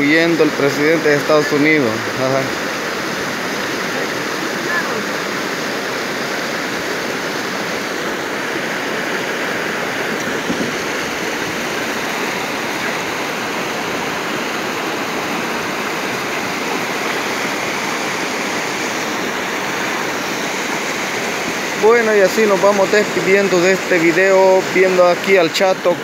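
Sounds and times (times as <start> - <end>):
river water rushing over stones: 0.0 - 26.0.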